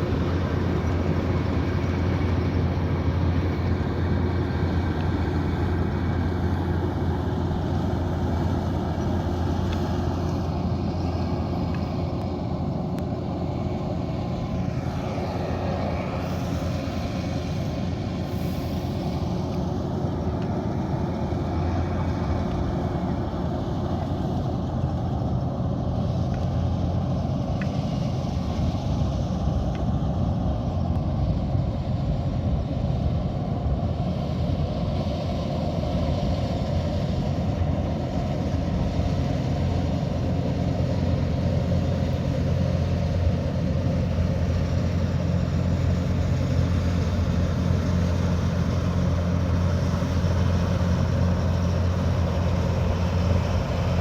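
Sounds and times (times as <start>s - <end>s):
combine harvester diesel drone: 0.0s - 54.0s
machinery noise: 0.0s - 54.0s.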